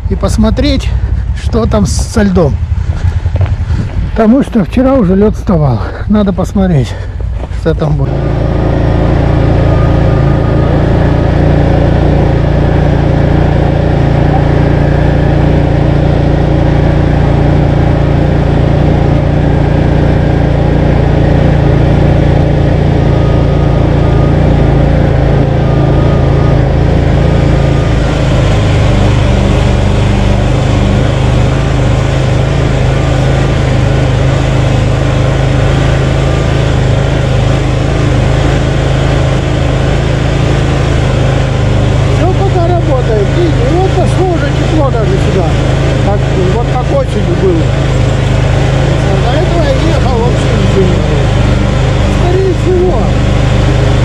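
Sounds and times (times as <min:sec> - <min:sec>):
petrol engine running under load: 0:00.0 - 0:54.0.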